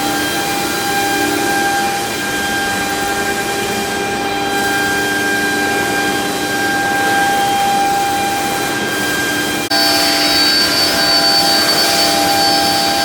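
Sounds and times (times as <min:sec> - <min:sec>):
mechanical hum: 0:00.0 - 0:13.0
router whining: 0:00.0 - 0:13.0.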